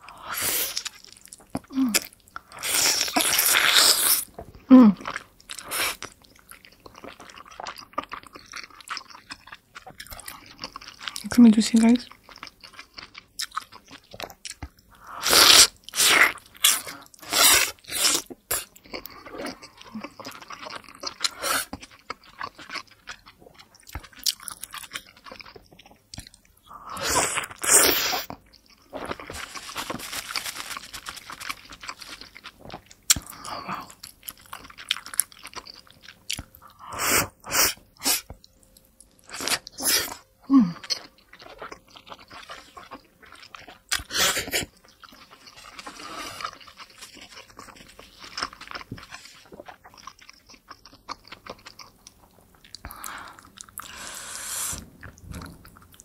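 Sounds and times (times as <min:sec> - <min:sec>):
person chewing: 0:00.0 - 0:11.2, 0:12.1 - 0:56.0.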